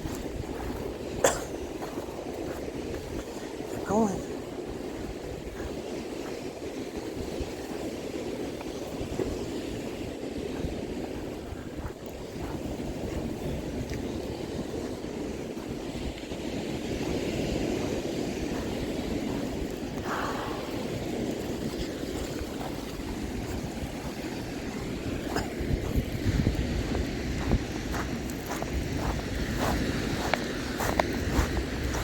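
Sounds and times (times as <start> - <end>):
wind: 0.0 - 32.0.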